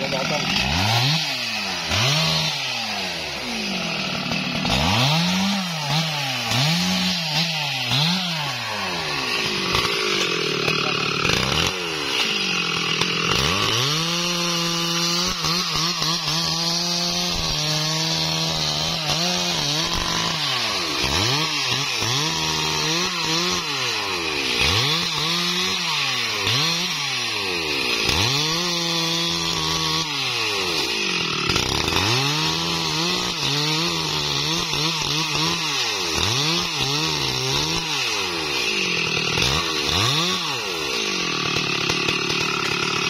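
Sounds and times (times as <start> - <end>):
chainsaw cutting tree trunk: 0.0 - 43.0.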